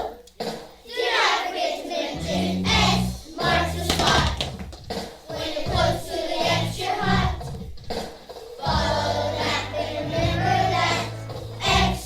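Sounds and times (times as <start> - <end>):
children singing: 0.0 - 4.4, 5.2 - 7.5, 8.2 - 12.0
instrumental accompaniment: 2.1 - 12.0.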